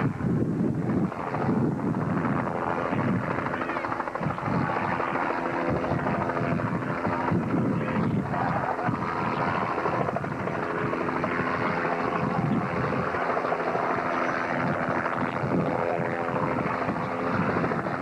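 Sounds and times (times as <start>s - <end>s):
helicopter engine tone: 0.0s - 18.0s
helicopter rotor beating: 0.0s - 18.0s.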